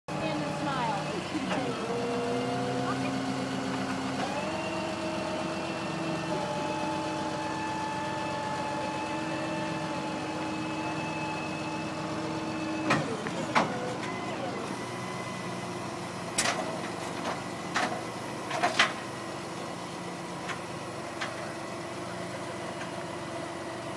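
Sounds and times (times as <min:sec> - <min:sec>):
vehicle engine whining: 0:00.1 - 0:23.9.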